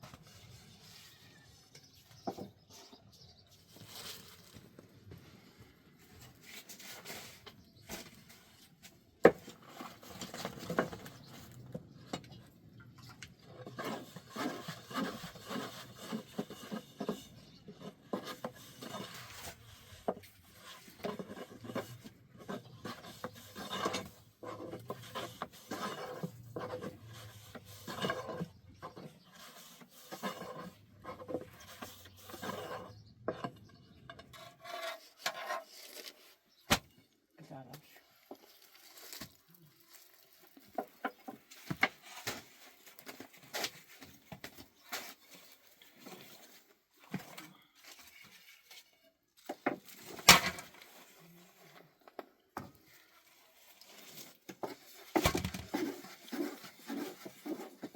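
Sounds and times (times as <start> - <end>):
rubbing and scraping on wood: 0.0 - 36.7, 38.2 - 57.9.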